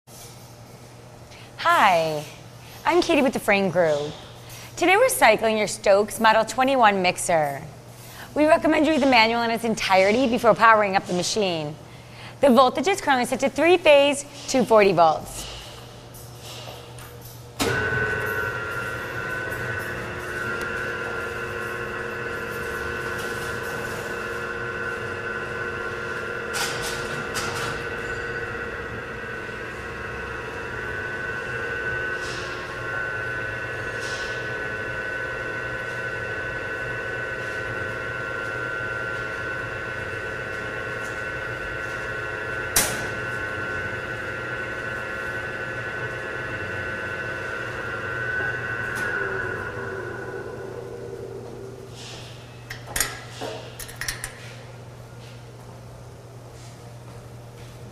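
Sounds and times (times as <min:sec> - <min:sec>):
mixer humming with high whine: 0:00.1 - 0:57.9.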